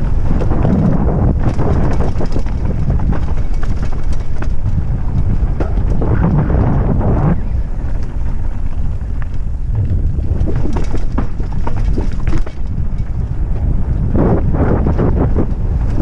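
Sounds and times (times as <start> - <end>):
bike clicks and rattles: 0.0 - 16.0
tyres rumbling on dirt: 0.0 - 16.0
wind buffeting microphone: 0.0 - 16.0.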